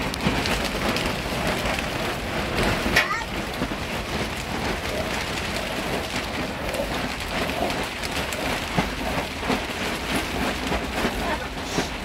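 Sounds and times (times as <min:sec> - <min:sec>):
heavy rain falling: 0:00.0 - 0:12.0
steady low rumble: 0:00.0 - 0:12.0.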